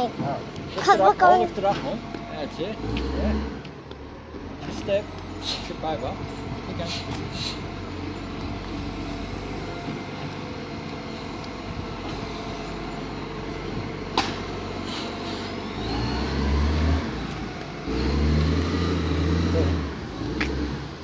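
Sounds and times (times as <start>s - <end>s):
garbage truck engine running: 3.7s - 21.0s.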